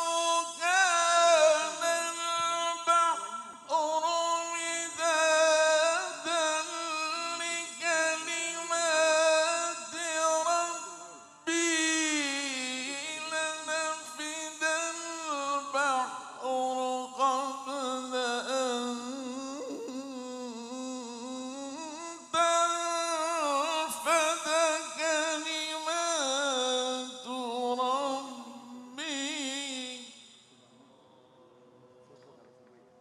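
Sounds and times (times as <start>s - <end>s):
man reciting melodically into microphone: 0.0s - 30.6s.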